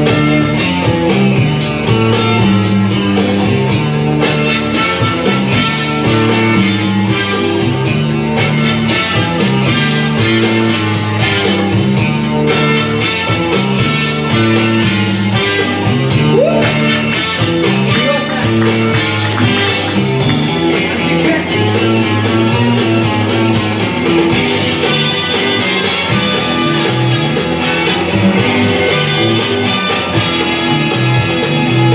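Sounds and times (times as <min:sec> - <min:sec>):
loud music with drum beat: 0:00.0 - 0:31.9.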